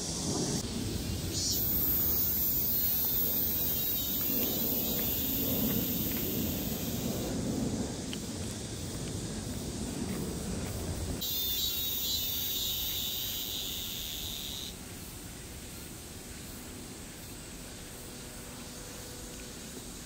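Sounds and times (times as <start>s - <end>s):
insects buzzing: 0.0s - 20.0s
steady outdoor hiss: 0.0s - 20.0s.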